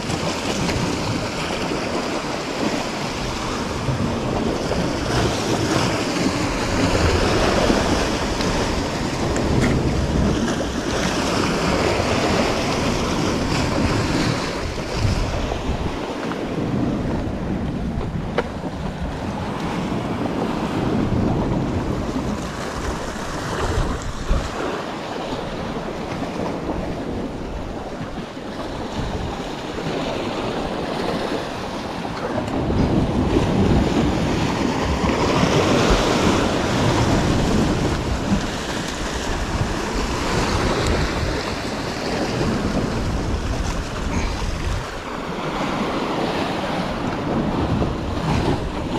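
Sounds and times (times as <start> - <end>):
surf breaking on rocks: 0.0 - 48.9
wind buffeting microphone: 0.0 - 48.9.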